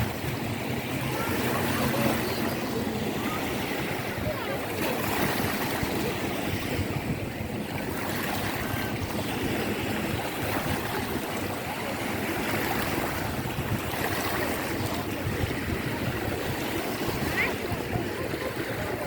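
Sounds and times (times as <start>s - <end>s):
surf washing on a beach: 0.0s - 19.0s
wind on microphone: 0.0s - 19.0s.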